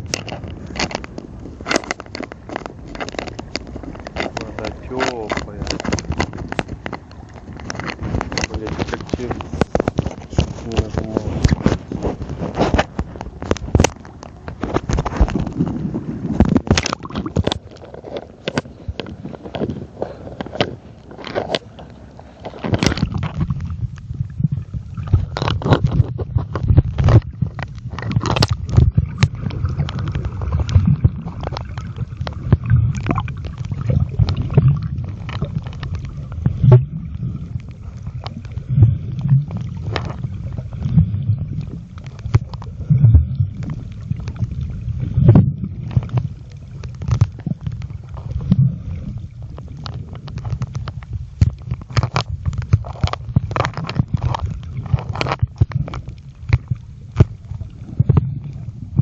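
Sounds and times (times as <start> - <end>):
muffled underwater rumble and gurgle: 0.0 - 59.0.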